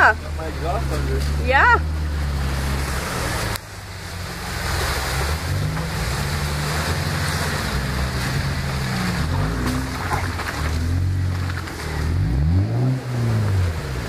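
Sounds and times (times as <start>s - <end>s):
car engine revving: 0.0s - 14.0s
muddy water splashing: 0.0s - 14.0s.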